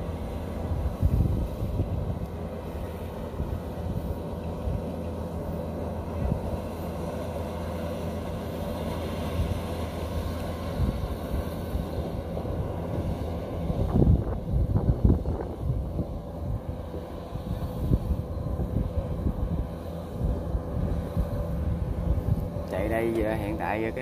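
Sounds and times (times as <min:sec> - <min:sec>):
wind buffeting microphone: 0:00.0 - 0:07.1, 0:09.1 - 0:24.0
combine harvester diesel engine: 0:00.0 - 0:24.0.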